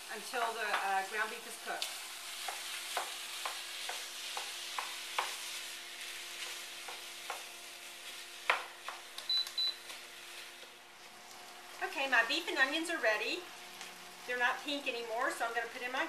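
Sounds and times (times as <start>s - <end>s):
meat sizzling in skillet: 0.0s - 16.0s.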